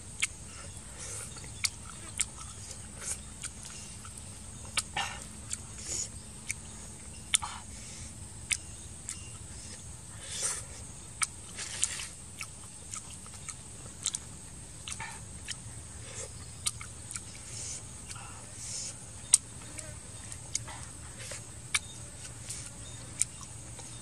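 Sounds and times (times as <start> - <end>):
wet chewing and lip smacks: 0.0 - 24.0.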